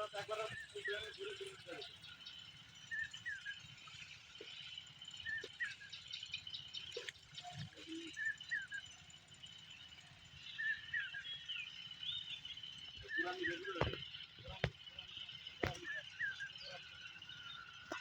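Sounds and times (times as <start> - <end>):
insects humming: 0.0 - 18.0.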